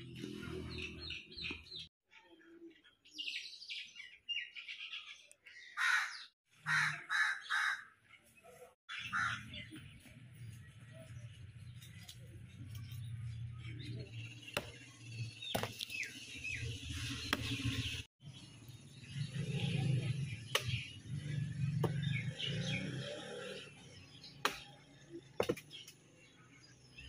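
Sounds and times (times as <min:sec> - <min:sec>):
small birds chirping: 0:00.3 - 0:27.0.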